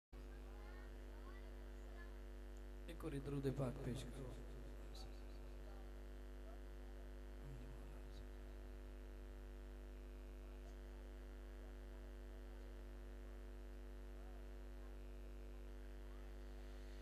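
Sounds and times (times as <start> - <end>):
electrical mains hum: 0.2 - 17.0.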